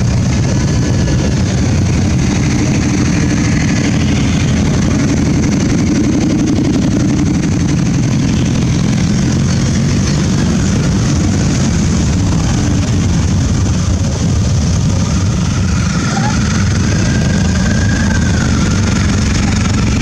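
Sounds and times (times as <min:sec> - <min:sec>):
motorcycle engines droning: 0:00.0 - 0:20.0.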